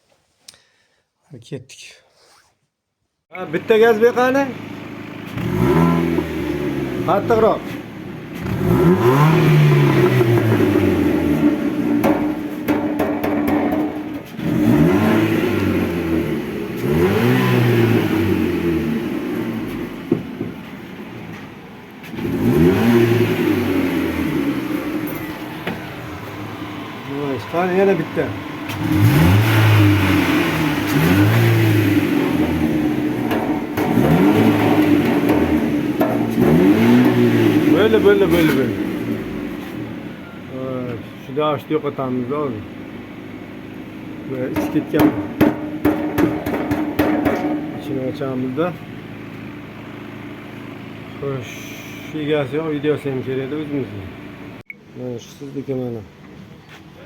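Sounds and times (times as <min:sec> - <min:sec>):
car engine revving: 0:03.5 - 0:54.6.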